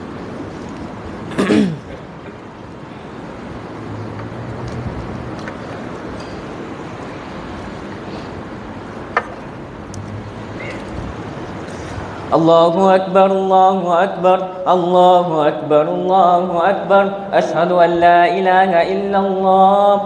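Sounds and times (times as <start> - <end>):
prayer hall background noise: 0.0 - 20.0.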